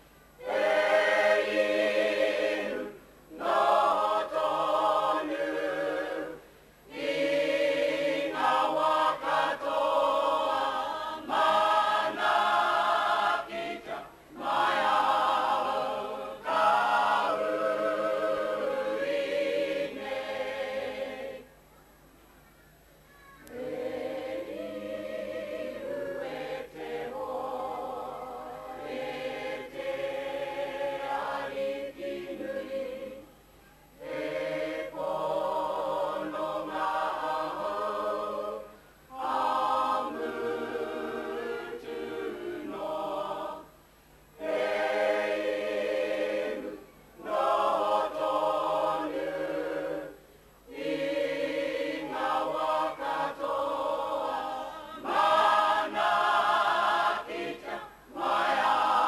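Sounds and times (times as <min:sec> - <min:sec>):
group singing as a choir: 0:00.4 - 0:21.5, 0:23.5 - 0:33.4, 0:34.0 - 0:59.0.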